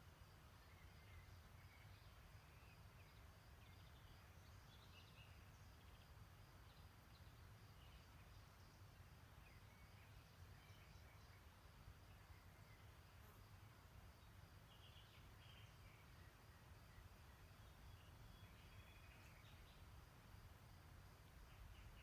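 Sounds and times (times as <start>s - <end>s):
faint songbirds chirping: 0.0s - 22.0s.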